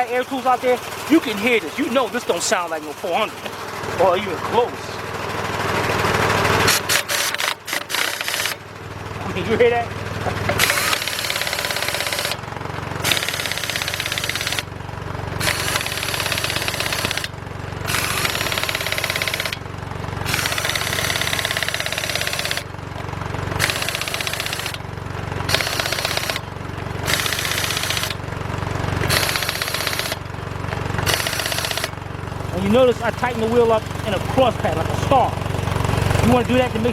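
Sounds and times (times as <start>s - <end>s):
air compressor running: 0.0s - 36.9s
air impact wrench hammering: 5.0s - 9.2s, 10.0s - 36.9s.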